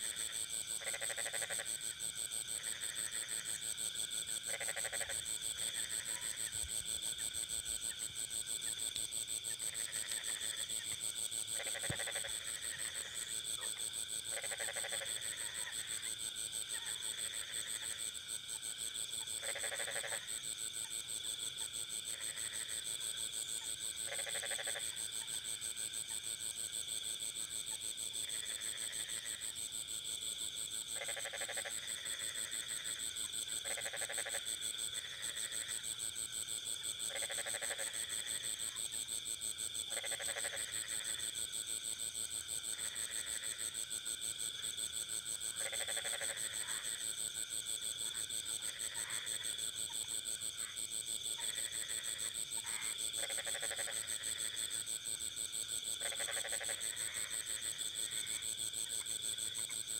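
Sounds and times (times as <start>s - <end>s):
bullfrogs croaking: 0.0s - 18.2s, 19.2s - 26.0s, 28.1s - 29.7s, 30.5s - 59.9s
insects chorus: 0.0s - 59.9s.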